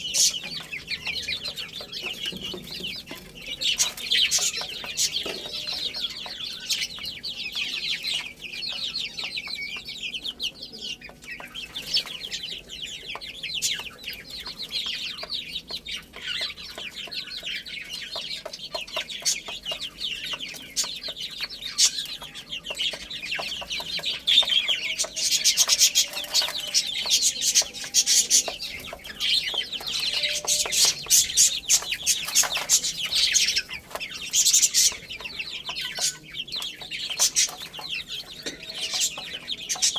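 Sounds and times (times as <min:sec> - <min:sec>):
baby chicks cheeping: 0:00.0 - 0:39.9.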